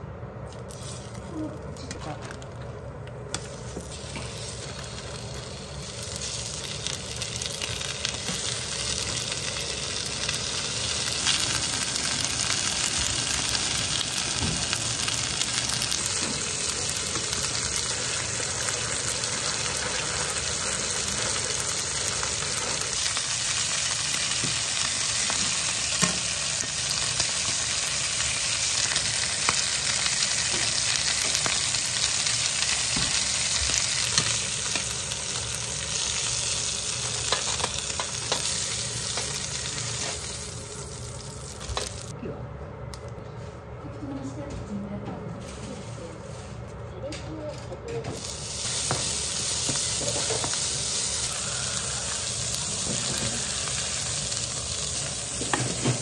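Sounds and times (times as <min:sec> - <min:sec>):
meat sizzling in a frying pan: 0:03.5 - 0:42.1, 0:48.1 - 0:56.0.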